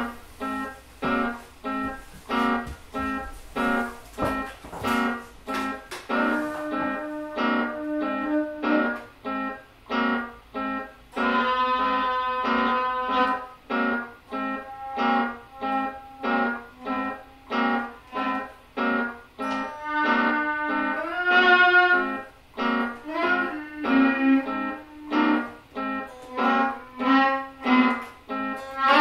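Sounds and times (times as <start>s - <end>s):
looped guitar drone: 0.0s - 29.0s.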